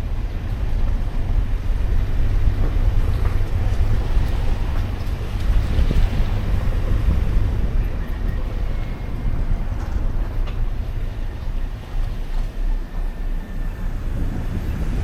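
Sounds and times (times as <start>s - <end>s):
street traffic rumbling: 0.0s - 15.0s
wind buffeting microphone: 0.0s - 15.0s.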